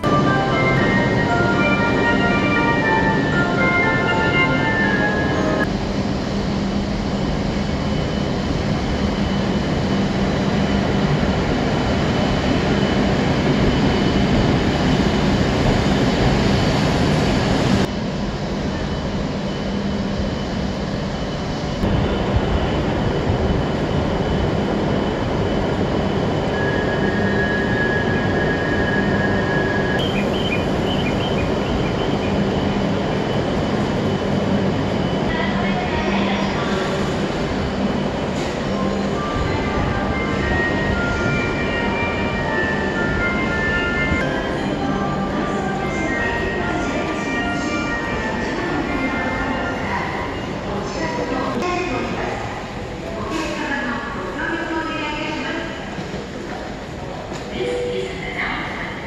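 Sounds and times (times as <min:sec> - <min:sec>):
station platform rush and hum: 0:00.0 - 0:59.0.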